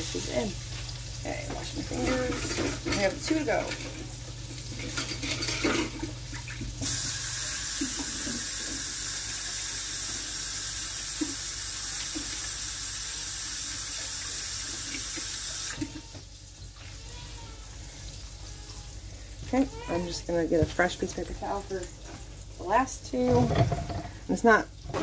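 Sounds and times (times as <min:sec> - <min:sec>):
tap water running into sink: 0:00.0 - 0:25.0.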